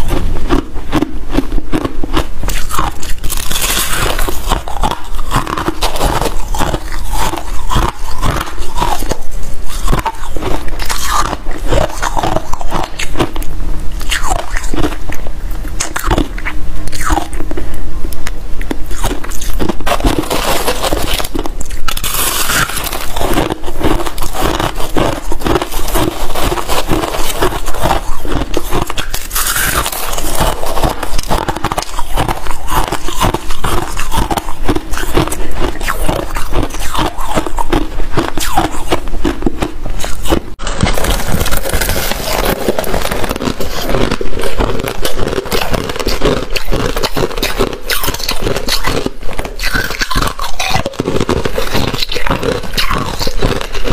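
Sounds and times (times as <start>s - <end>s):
crunching ice being chewed: 0.0s - 53.9s.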